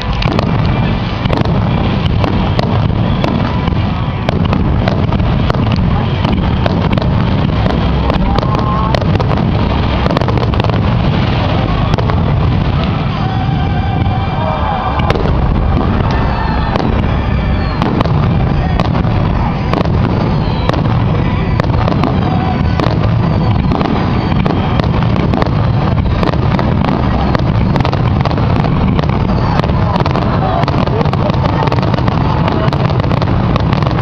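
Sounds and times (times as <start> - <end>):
fireworks bursting: 0.0 - 34.0
fireworks crackling: 0.0 - 34.0
fireworks whistling: 0.0 - 34.0.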